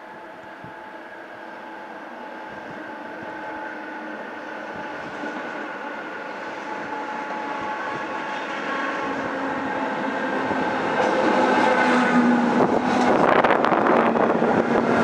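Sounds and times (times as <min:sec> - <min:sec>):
electric train approaching: 0:00.0 - 0:15.0.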